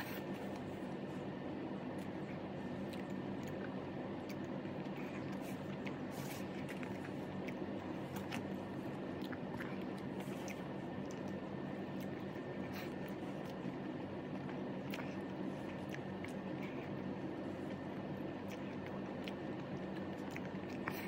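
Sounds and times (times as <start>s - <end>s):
chewing: 0.0s - 21.0s
steady low hum: 0.0s - 21.0s.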